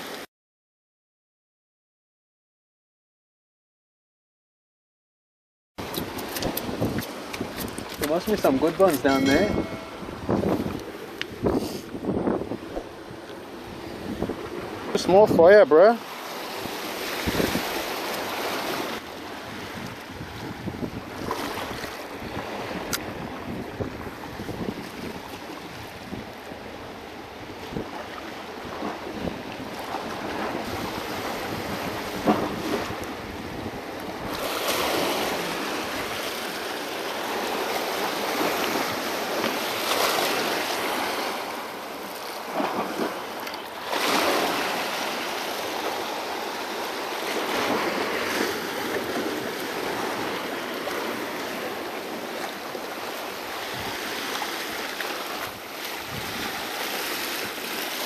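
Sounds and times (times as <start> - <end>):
waves sloshing over rocks: 5.8 - 58.0.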